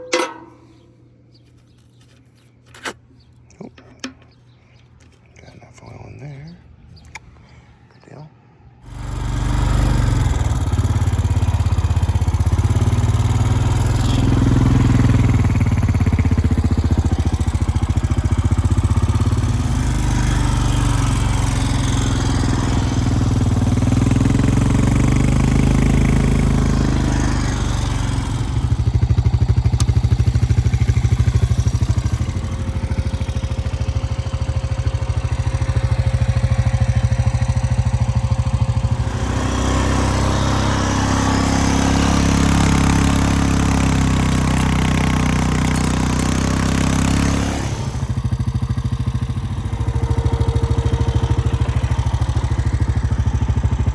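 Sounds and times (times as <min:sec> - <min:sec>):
engine running: 0:00.0 - 0:01.0, 0:08.8 - 0:53.9.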